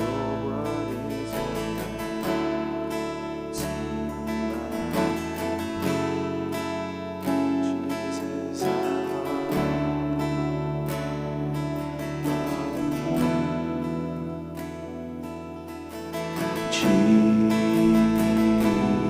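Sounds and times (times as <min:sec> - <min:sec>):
acoustic guitar strumming: 0:00.0 - 0:19.0
sustained chords and bass notes: 0:00.0 - 0:19.0.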